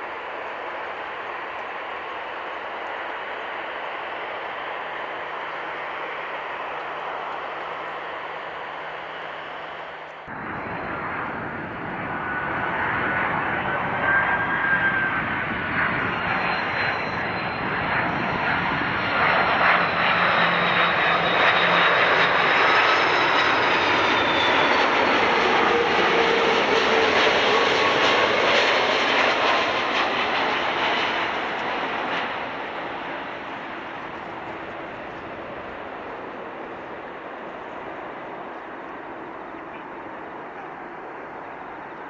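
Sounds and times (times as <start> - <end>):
jet engines rushing: 0.0 - 42.0.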